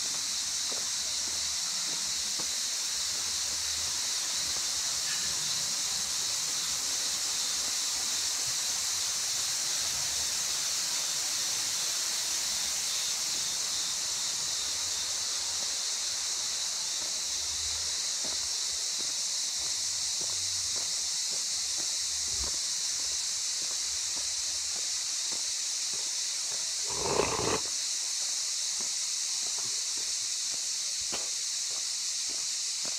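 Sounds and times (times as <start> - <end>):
cicadas shrilling: 0.0 - 32.9.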